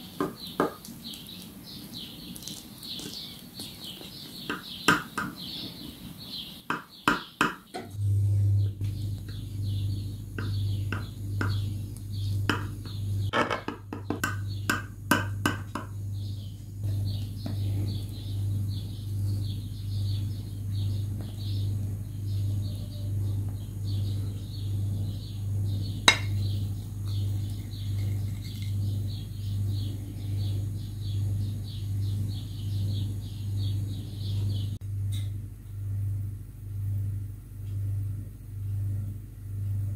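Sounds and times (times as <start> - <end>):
pulsing low hum: 7.9 - 39.9.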